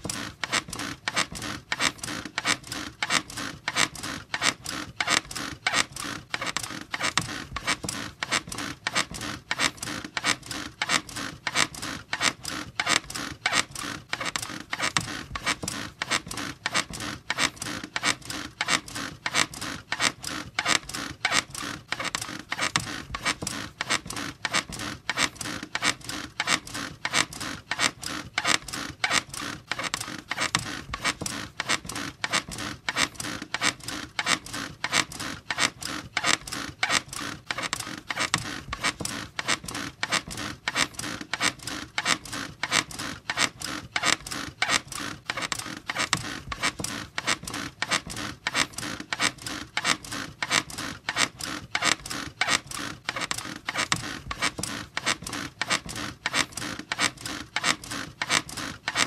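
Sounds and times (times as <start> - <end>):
bed springs squeaking: 0.0 - 59.0.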